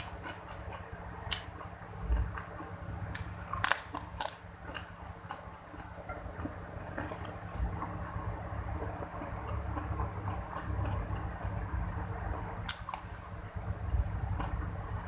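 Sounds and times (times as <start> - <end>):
sharp crisp clicks: 0.0 - 8.2, 9.1 - 15.0
chewing and crunching food: 0.0 - 15.0.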